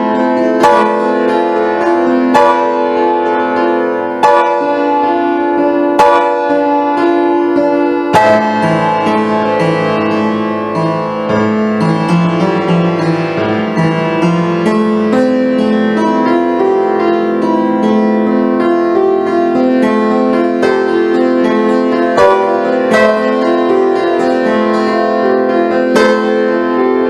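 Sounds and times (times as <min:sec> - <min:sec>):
keyboard music with piano-like notes: 0:00.0 - 0:27.0.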